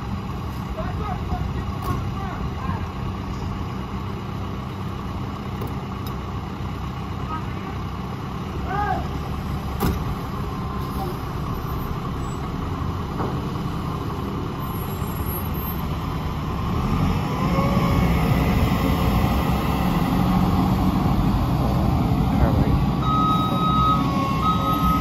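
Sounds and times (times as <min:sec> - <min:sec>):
diesel engines idling: 0:00.0 - 0:25.0.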